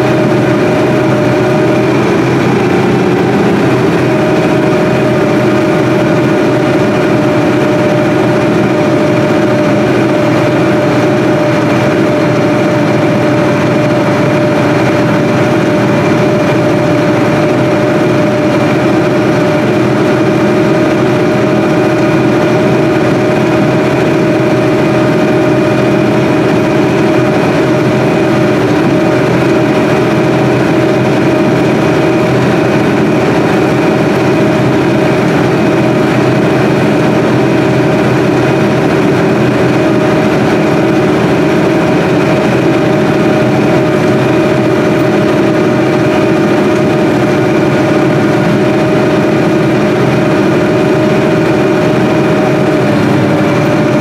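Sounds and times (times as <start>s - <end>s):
farm machinery engine drone: 0.0s - 54.0s
steady machine whine: 0.0s - 54.0s.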